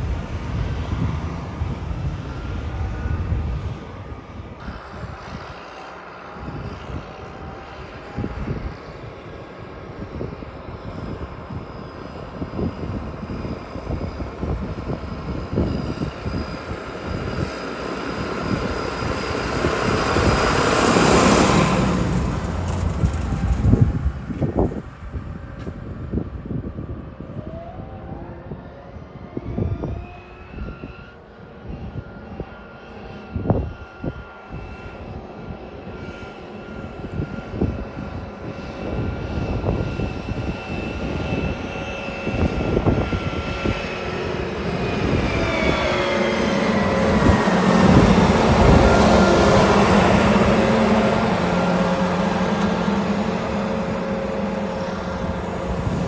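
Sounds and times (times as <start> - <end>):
engine running with whine: 0.0 - 56.0.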